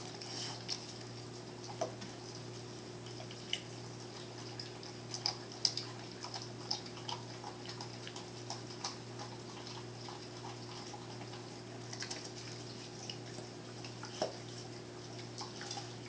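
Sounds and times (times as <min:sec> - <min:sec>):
dog licking and gnawing meat: 0:00.0 - 0:16.0
faint steady hum: 0:00.0 - 0:16.0.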